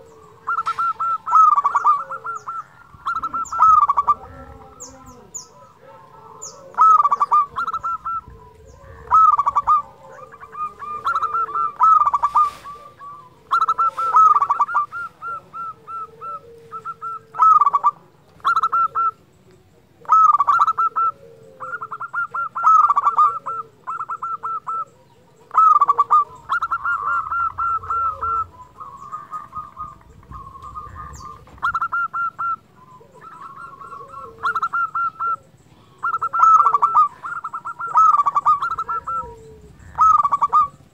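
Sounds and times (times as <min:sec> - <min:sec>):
dove cooing song: 0:00.0 - 0:40.9.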